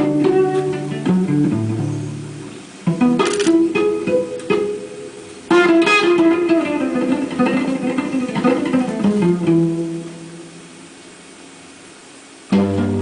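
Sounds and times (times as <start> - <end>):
guitar playing: 0.0 - 10.9, 12.5 - 13.0.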